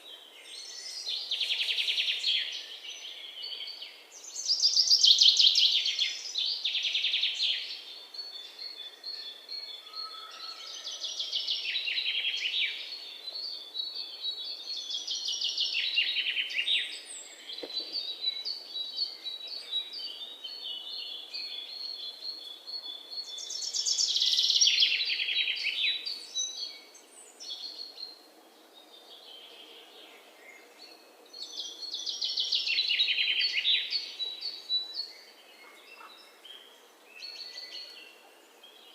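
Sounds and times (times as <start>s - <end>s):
songbird chirping trills: 0.0s - 38.9s.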